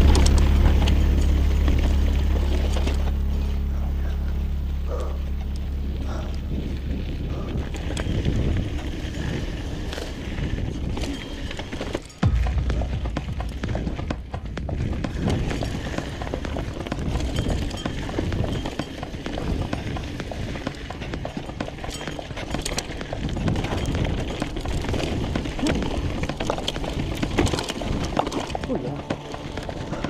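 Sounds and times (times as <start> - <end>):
bike rattling: 0.0 - 30.0
bike tyres crunching over stones: 0.0 - 30.0
wind rumble on microphone: 0.0 - 30.0.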